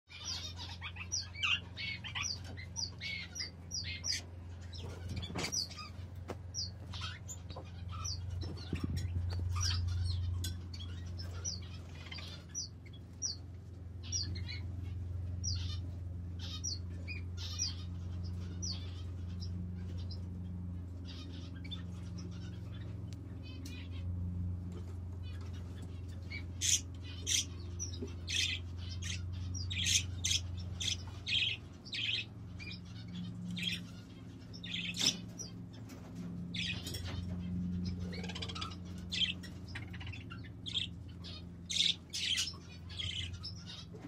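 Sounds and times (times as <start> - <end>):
parakeets chirping: 0.1 - 44.0
steady low hum: 0.1 - 44.0.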